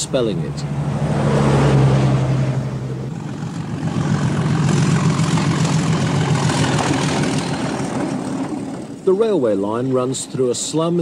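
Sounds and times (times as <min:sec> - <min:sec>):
train moving past: 0:00.0 - 0:10.5
train engine hum: 0:00.0 - 0:11.0.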